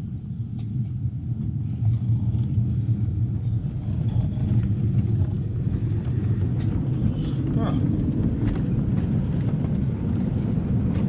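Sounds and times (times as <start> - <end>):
miniature train rumbling on track: 0.0 - 11.0.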